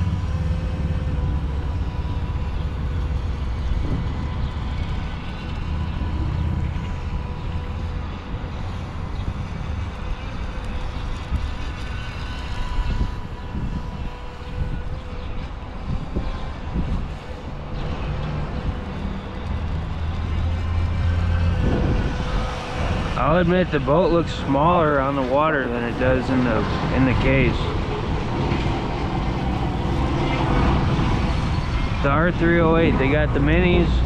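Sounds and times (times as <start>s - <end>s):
electric boat motor whining: 0.0s - 34.0s.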